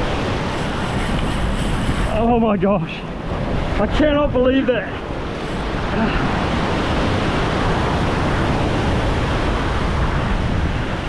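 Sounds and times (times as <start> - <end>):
surf washing against shore: 0.0 - 11.0
wind rumbling on microphone: 0.0 - 11.0.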